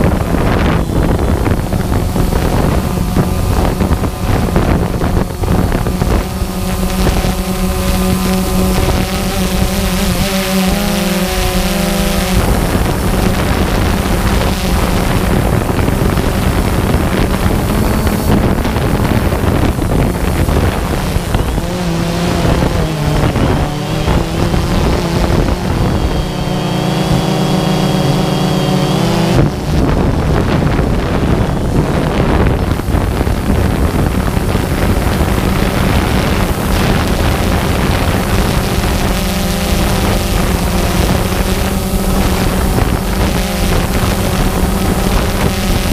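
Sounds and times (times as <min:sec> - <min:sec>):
drone motors humming: 0:00.0 - 0:45.9
wind buffeting microphone: 0:00.0 - 0:45.9.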